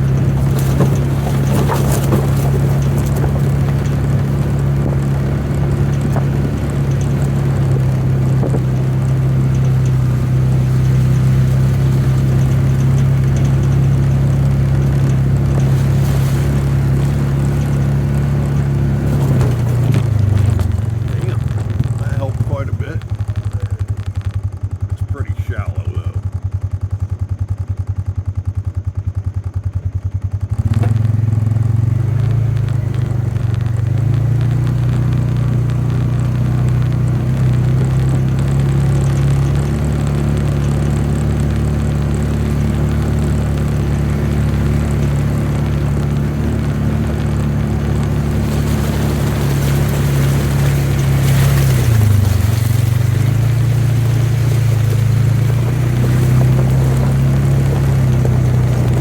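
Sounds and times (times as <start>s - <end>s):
vehicle engine idling and revving: 0.0s - 59.0s.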